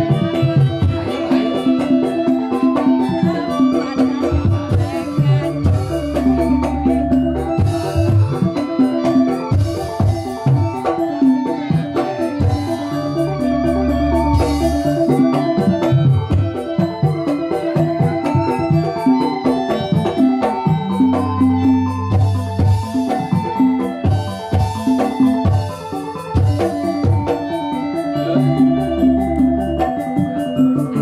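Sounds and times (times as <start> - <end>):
electronic keyboard organ-like notes: 0.0 - 31.0
hand drum strokes: 0.0 - 31.0.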